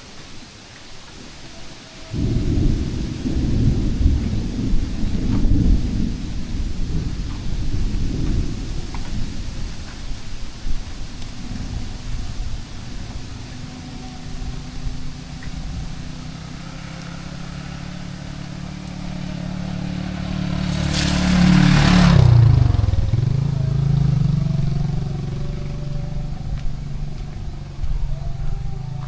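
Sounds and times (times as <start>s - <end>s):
tyres hissing on wet road: 0.0s - 28.0s
vehicle engine passing by: 1.4s - 9.3s, 11.1s - 29.0s.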